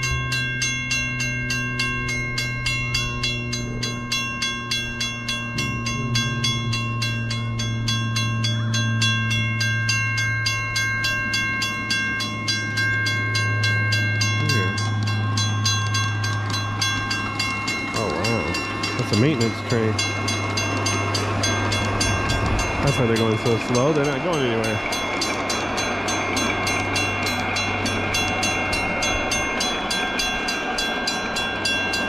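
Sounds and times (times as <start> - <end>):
train hum: 0.0 - 32.0
train wheels clicking over rail joints: 0.0 - 32.0.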